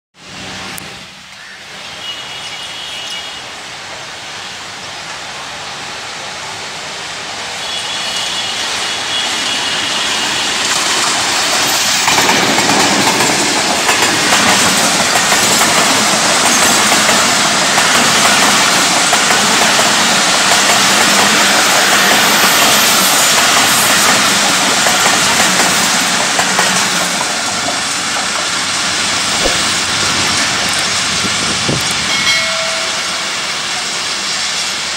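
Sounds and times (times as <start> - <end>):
train passing: 0.2 - 34.9.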